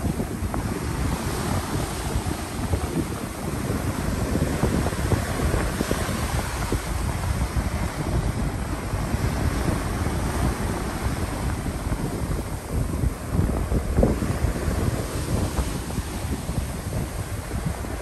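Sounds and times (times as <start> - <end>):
sea water rushing along hull: 0.0 - 18.0
wind buffeting microphone: 0.0 - 18.0.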